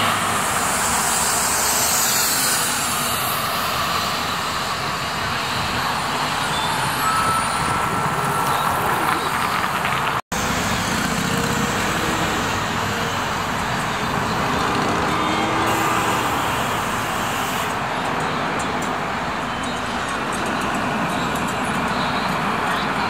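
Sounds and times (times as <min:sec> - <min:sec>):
cars and buses passing: 0:00.0 - 0:23.0.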